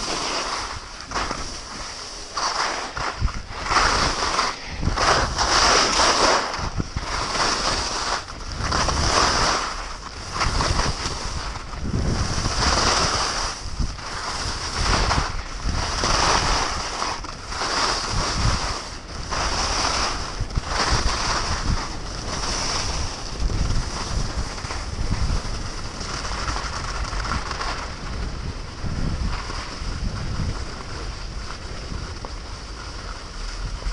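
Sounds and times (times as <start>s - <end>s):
skis scraping over snow: 0.0s - 33.9s
wind rushing over microphone: 0.0s - 33.9s.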